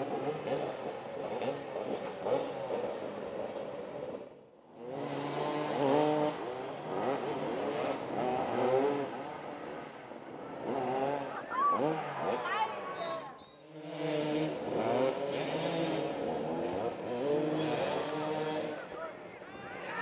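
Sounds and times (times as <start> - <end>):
motorcycles revving: 0.0 - 20.0.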